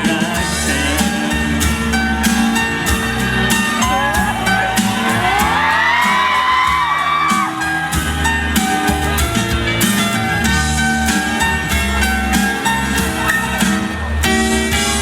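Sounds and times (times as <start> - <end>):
live pop band playing: 0.0 - 15.0
crowd whooping and screaming: 0.5 - 14.4.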